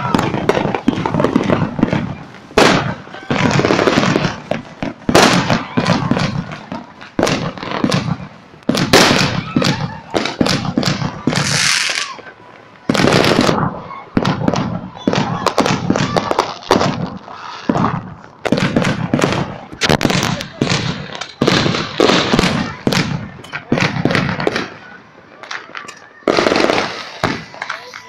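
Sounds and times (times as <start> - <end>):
fireworks bangs and crackles: 0.0 - 28.0
fireworks rushing hiss: 0.0 - 28.0.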